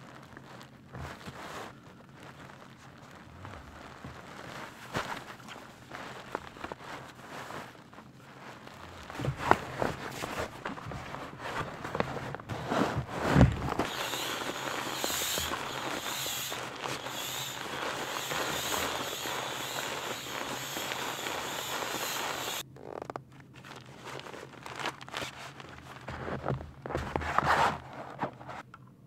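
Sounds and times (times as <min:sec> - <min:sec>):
sleeping pad fabric crackling: 0:00.0 - 0:28.6
handling rustles: 0:00.0 - 0:28.8.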